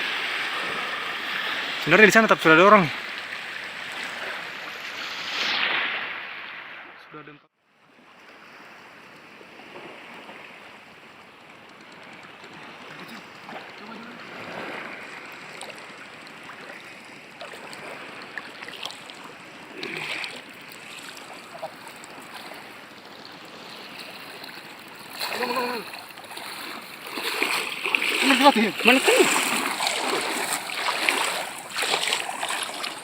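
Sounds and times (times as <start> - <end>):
water rushing at shoreline: 0.0 - 33.0.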